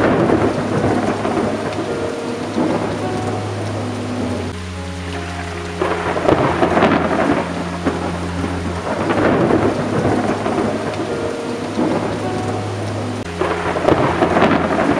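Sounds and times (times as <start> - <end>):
steady rain: 0.0 - 14.9
thunder rumbling: 0.0 - 14.9.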